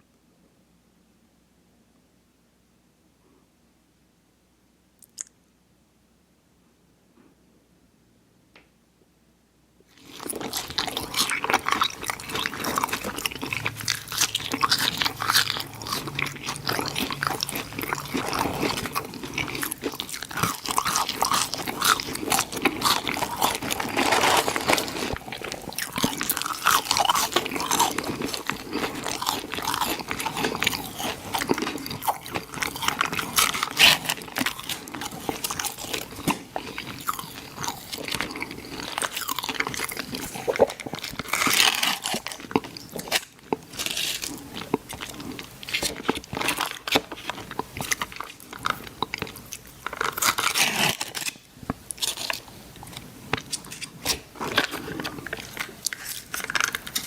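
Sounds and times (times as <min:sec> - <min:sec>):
person chewing crunchy food: 0:09.9 - 0:57.0.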